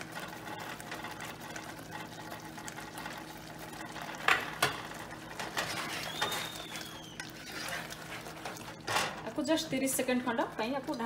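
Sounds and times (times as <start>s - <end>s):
curry bubbling in saucepan: 0.0s - 11.0s.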